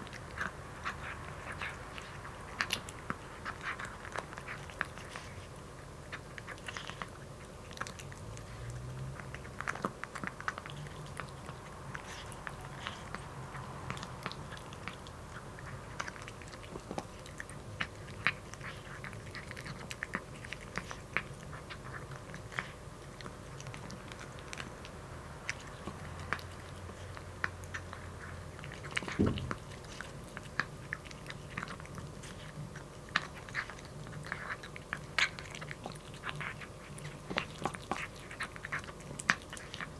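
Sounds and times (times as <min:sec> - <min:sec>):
kitten crunching dry kibble: 0:00.0 - 0:39.9.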